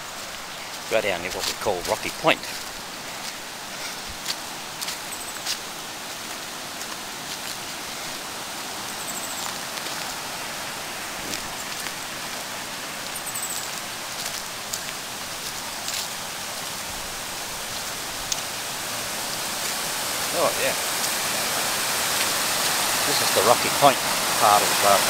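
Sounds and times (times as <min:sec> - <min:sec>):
river rushing over rapids: 0:00.0 - 0:25.0.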